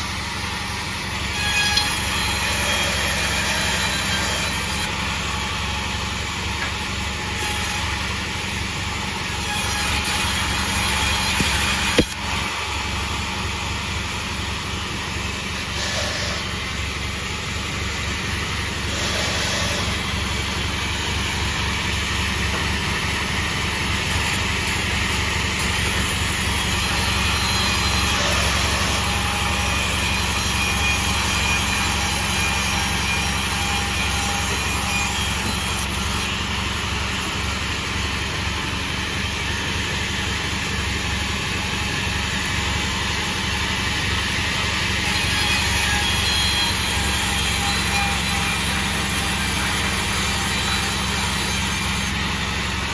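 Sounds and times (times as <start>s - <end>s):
sawmill machine drone: 0.0s - 52.9s.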